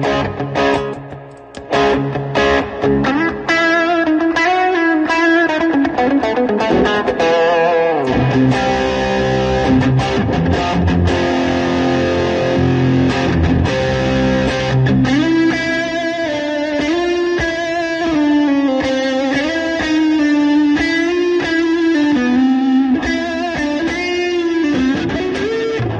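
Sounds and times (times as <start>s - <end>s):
electric guitar: 0.0s - 25.9s.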